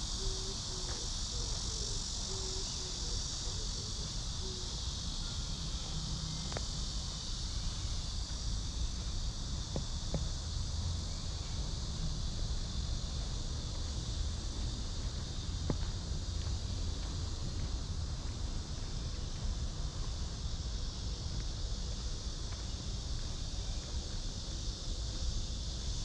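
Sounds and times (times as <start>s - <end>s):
cicadas chorus: 0.0s - 26.0s.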